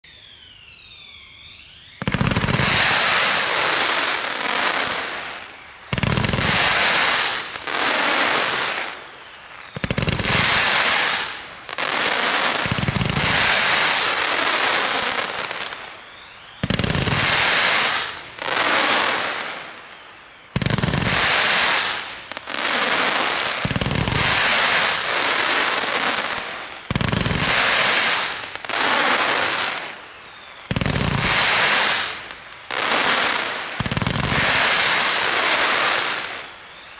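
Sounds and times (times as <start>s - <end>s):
firework crackling: 2.0s - 36.9s.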